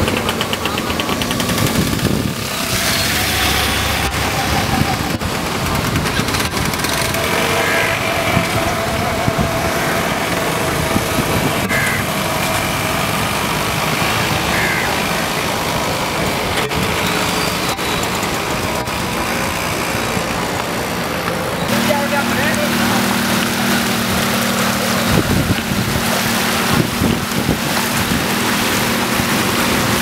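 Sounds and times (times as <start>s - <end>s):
vehicle engines running: 0.0s - 30.0s
wheels splashing through water: 0.0s - 30.0s.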